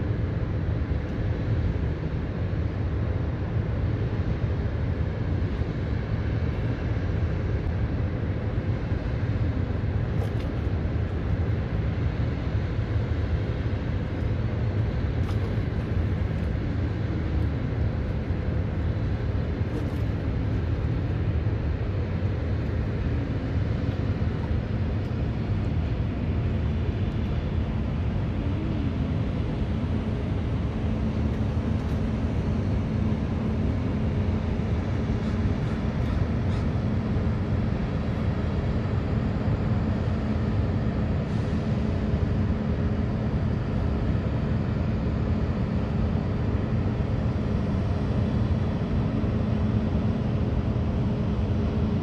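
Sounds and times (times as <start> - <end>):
distant machinery drone: 0.0 - 52.0.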